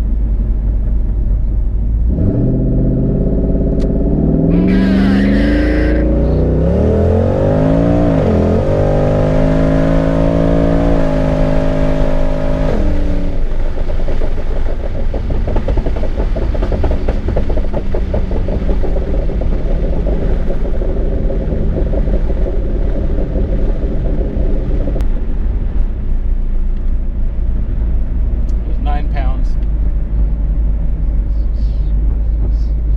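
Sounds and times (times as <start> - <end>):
car engine accelerating hard: 0.0 - 32.9.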